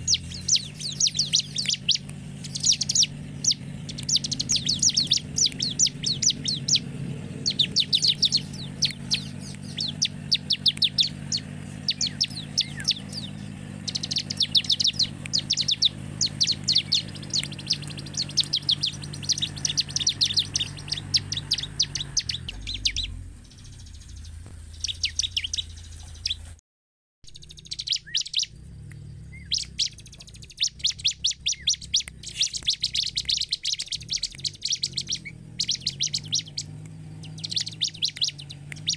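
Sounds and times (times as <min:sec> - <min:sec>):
steady low hum: 0:00.0 - 0:26.5, 0:27.3 - 0:38.9
bird singing rattling chirps: 0:00.0 - 0:26.6, 0:27.3 - 0:38.9.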